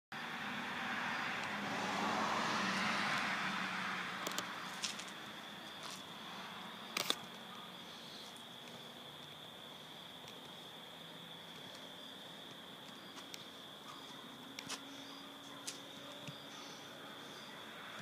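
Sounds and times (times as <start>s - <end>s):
road vehicle passing: 0.1s - 18.0s.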